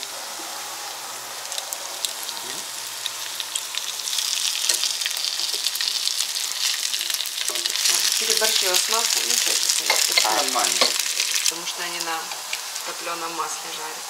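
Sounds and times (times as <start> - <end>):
pancakes sizzling in a frying pan: 0.0 - 13.9.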